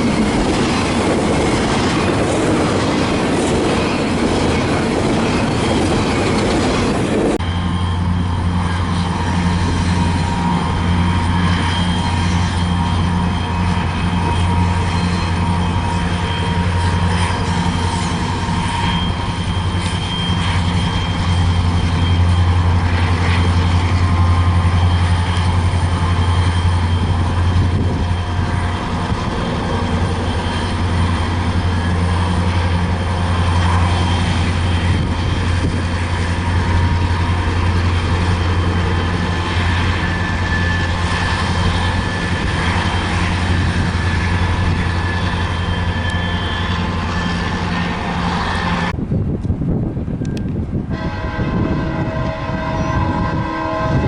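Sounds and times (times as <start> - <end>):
train passing with deep rumble: 0.0 - 54.0.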